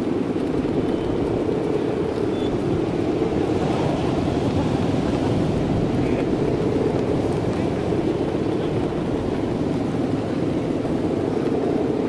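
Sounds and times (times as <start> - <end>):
kite bow humming drone: 0.0 - 12.0
wind noise on microphone: 0.0 - 12.0.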